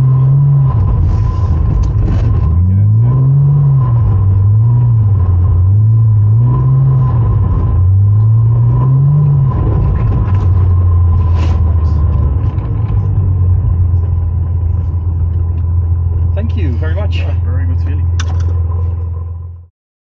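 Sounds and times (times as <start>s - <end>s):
car engine revving: 0.0s - 19.6s.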